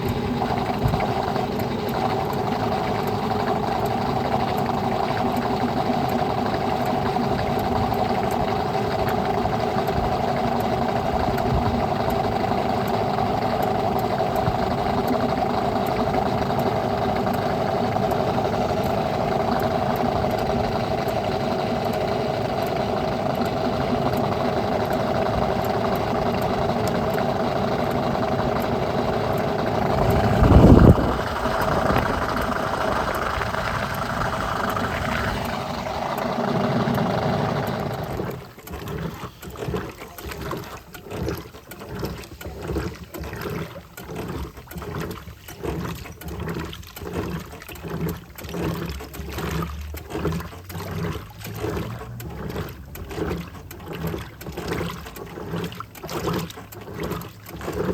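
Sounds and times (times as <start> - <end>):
agitator sloshing water: 0.0 - 57.9
washing machine spinning: 0.0 - 57.9.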